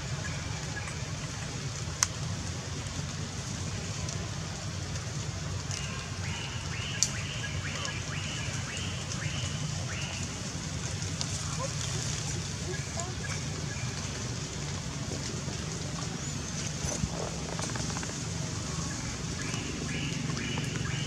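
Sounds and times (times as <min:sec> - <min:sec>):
raindrops falling: 0:00.0 - 0:21.0
sharp water drips: 0:00.1 - 0:21.0.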